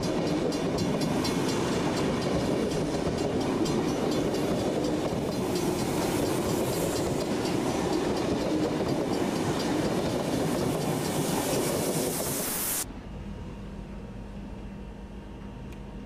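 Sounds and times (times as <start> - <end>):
train wheels running on track: 0.0 - 12.9.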